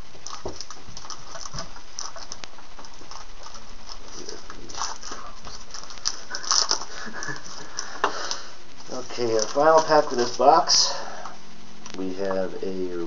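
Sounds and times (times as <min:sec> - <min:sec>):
steady hiss: 0:00.0 - 0:13.0
foil pack crinkling: 0:00.1 - 0:11.0.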